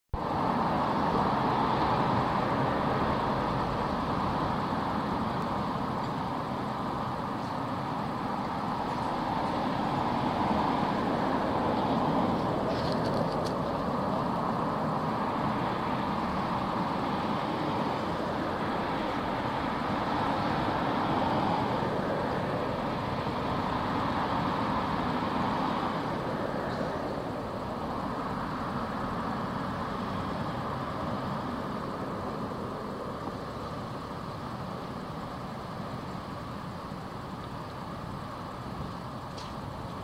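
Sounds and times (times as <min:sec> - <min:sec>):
city street traffic: 0:00.1 - 0:40.0.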